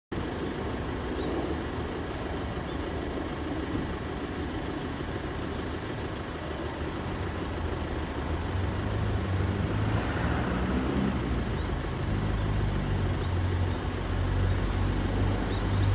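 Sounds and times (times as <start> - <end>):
low outdoor rumble: 0.1 - 15.9.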